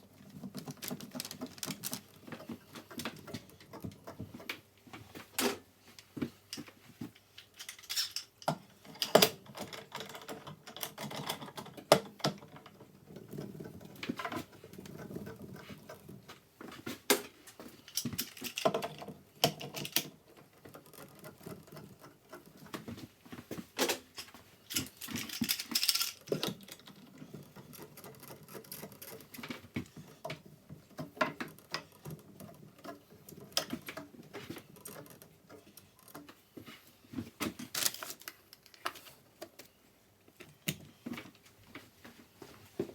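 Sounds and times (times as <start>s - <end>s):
hands working with wood and tools: 0.0s - 42.9s.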